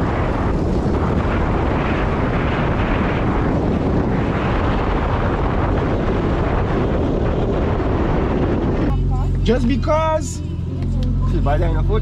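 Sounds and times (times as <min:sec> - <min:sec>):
moving vehicle noise: 0:00.0 - 0:12.0
wind buffeting microphone: 0:00.0 - 0:12.0.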